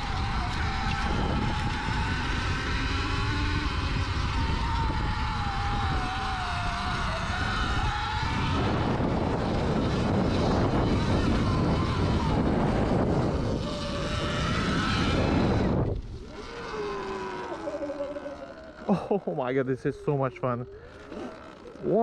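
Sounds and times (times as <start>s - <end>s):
wind noise: 0.0s - 17.8s
electric motor whine: 0.0s - 22.0s.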